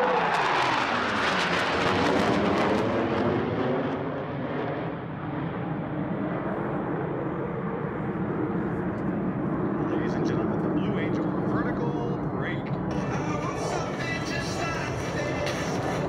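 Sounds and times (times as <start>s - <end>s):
aircraft engine roar: 0.0s - 16.0s.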